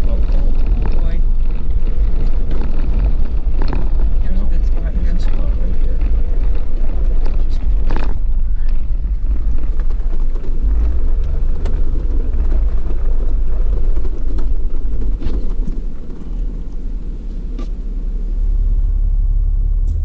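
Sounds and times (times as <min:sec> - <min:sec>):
vehicle driving on rough road: 0:00.0 - 0:20.0.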